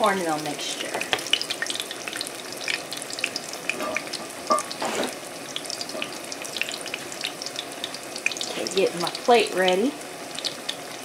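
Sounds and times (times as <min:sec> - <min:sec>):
patties sizzling in hot oil: 0:00.0 - 0:11.0
oil crackles and pops: 0:00.2 - 0:11.0.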